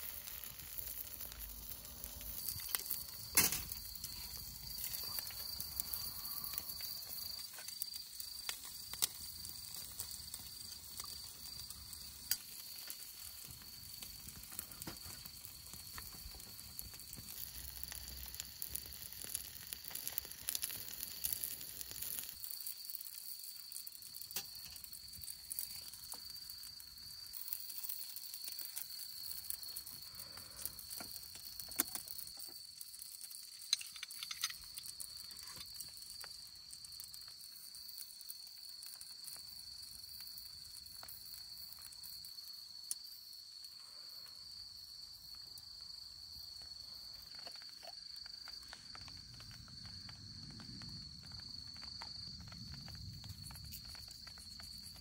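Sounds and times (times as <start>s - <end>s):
campfire crackling and popping: 0.0s - 55.0s
fish sizzling on a grill: 0.0s - 55.0s.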